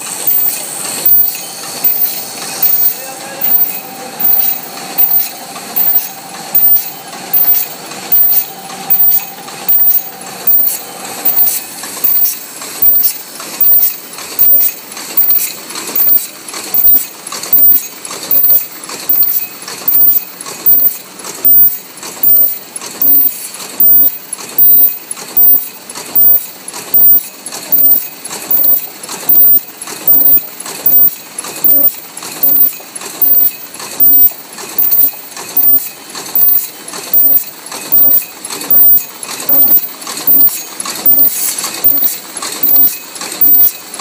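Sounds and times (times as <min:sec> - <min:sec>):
machine clattering rhythmically: 0:00.0 - 0:44.0.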